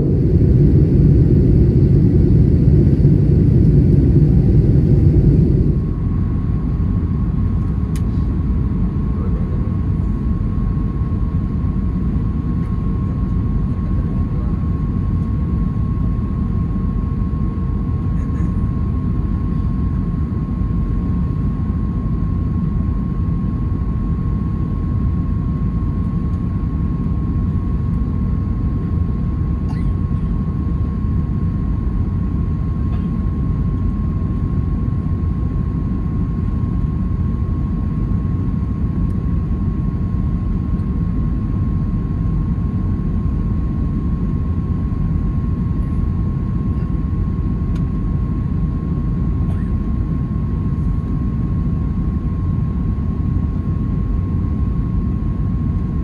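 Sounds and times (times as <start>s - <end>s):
aircraft cabin engine rumble: 0.0s - 56.0s
steady high whine: 0.0s - 56.0s.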